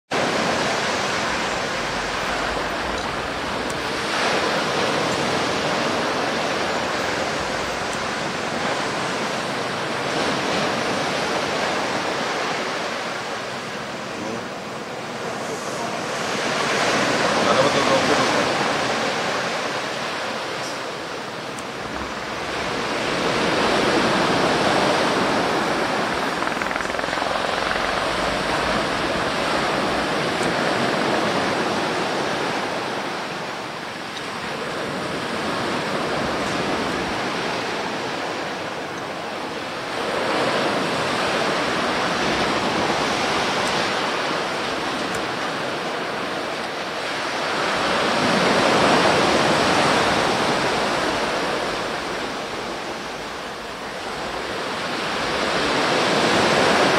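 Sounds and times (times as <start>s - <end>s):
sea waves breaking: 0.1s - 56.9s.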